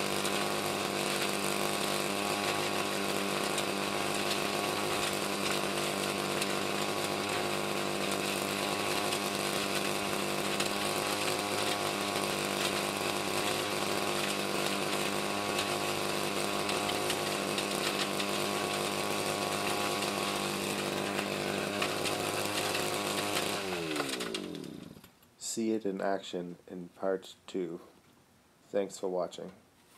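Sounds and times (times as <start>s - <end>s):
motor humming steadily: 0.0s - 25.0s.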